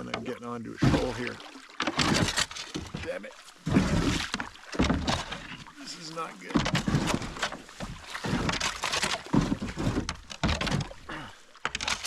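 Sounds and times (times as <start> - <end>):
canoe hull scraping over rocks: 0.0 - 12.0.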